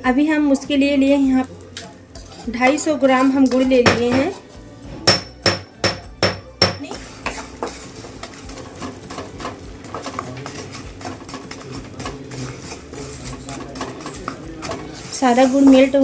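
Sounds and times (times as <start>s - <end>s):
spoon stirring and scraping in pan: 1.1s - 16.0s.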